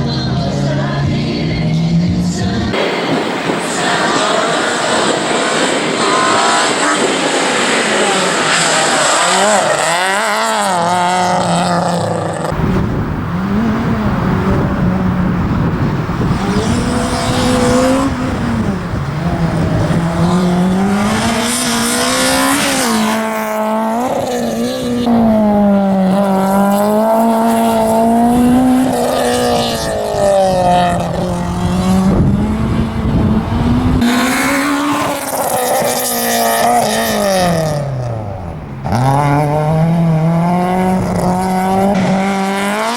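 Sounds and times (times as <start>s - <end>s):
car engine revving hard: 2.8s - 42.9s.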